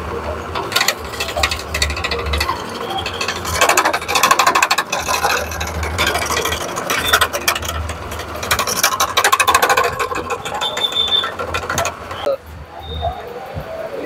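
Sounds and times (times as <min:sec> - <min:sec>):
low motor hum: 0:00.0 - 0:12.7
coconut scraper rasping: 0:00.5 - 0:12.3.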